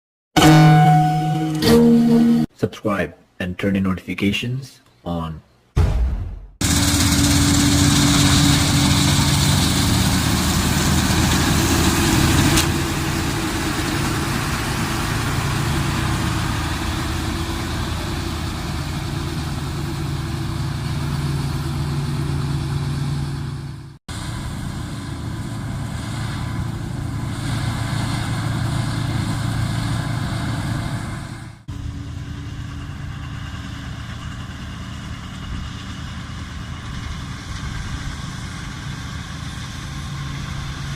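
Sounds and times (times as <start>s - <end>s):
combine harvester engine drone: 6.6s - 40.9s
machinery whirring: 6.6s - 40.9s.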